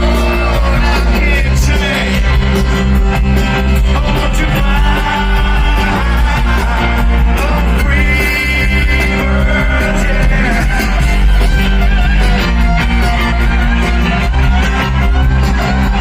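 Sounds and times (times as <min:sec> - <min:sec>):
bass and drums: 0:00.0 - 0:16.0
gliding lead guitar: 0:00.0 - 0:16.0
rock music: 0:00.0 - 0:16.0.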